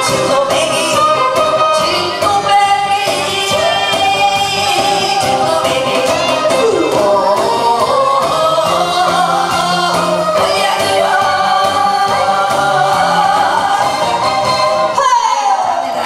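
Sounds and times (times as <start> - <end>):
amplified music with steady beat: 0.0 - 14.9
woman singing into microphone: 0.0 - 16.0.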